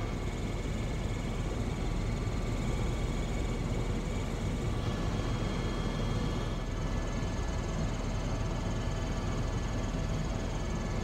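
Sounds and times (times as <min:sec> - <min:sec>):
helicopter engine and rotor noise: 0:00.0 - 0:11.0.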